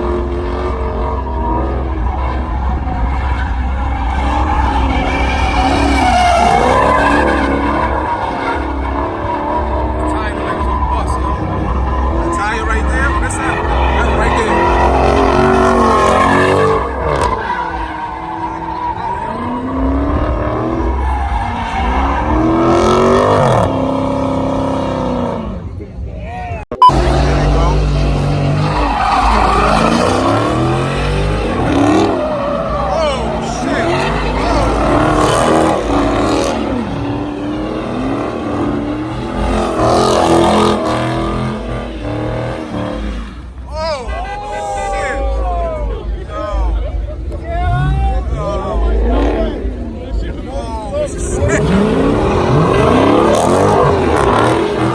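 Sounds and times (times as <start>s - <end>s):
car engine revving: 0.0s - 54.9s
tires squealing: 0.0s - 54.9s.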